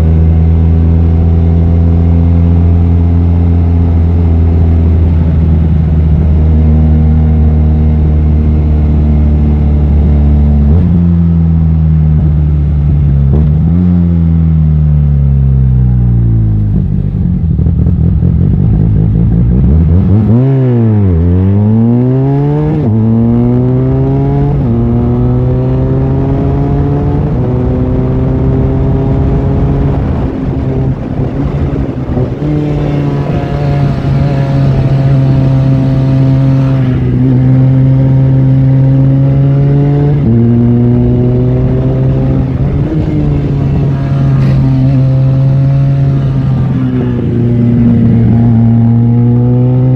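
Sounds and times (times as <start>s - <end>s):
motorcycle engine shifting gears: 0.0s - 49.9s.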